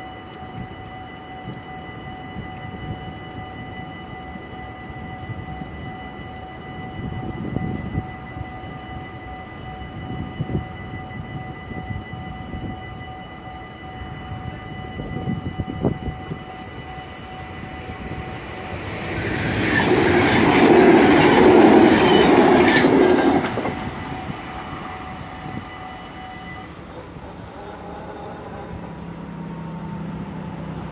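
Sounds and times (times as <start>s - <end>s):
level crossing warning bell: 0.0s - 30.4s
train passing: 0.0s - 30.9s.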